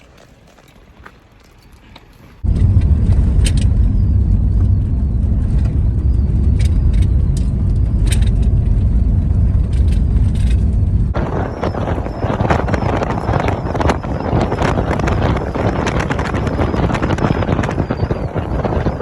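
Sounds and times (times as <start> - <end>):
car road rumble: 2.0 - 19.0.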